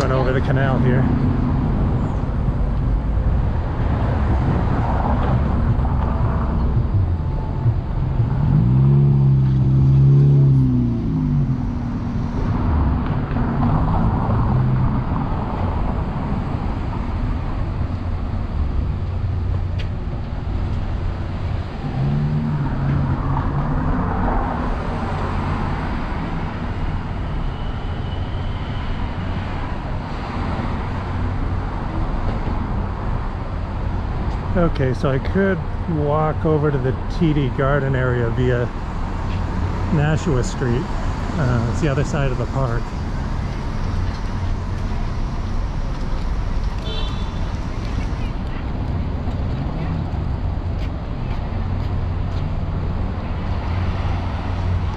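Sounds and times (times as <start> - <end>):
road traffic rumble: 0.0 - 54.9
vehicles passing: 0.0 - 54.9.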